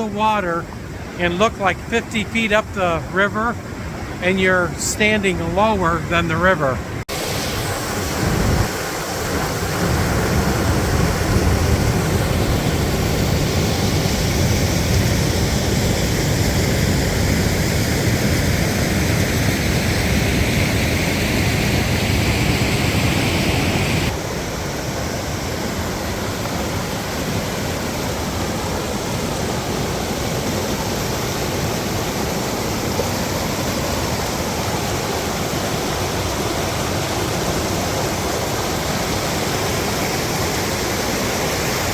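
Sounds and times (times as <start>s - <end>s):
waterfall rushing: 0.0s - 15.4s, 16.0s - 41.9s.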